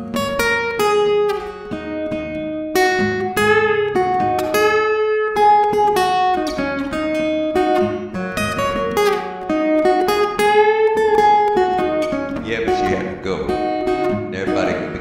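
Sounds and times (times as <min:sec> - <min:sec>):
acoustic blues guitar notes: 0:00.0 - 0:15.0.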